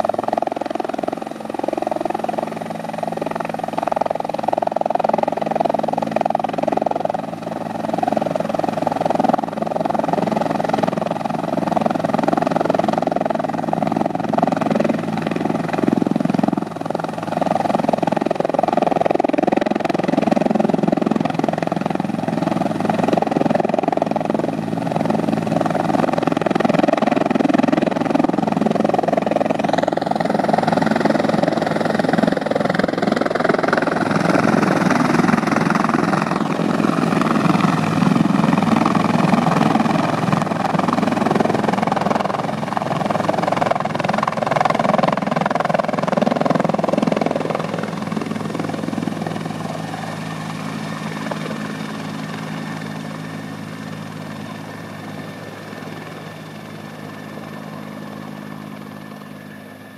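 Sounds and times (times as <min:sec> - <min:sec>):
helicopter rotors and engines: 0:00.0 - 0:59.9.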